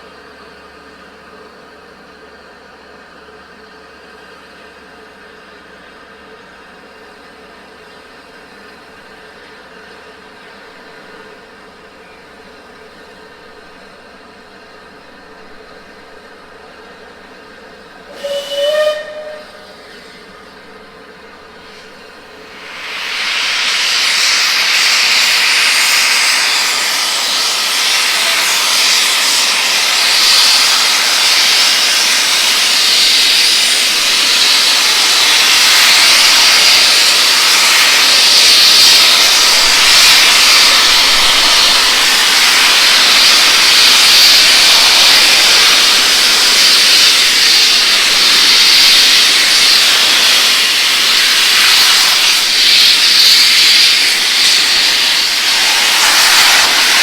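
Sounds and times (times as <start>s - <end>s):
steam locomotive venting steam: 0.0s - 57.0s.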